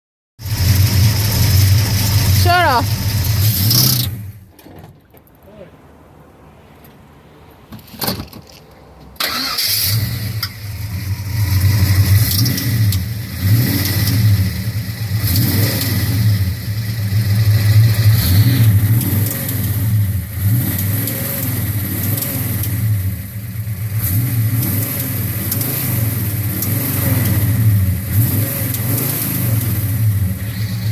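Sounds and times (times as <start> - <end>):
engine revving: 0.4 - 4.4, 9.2 - 30.9.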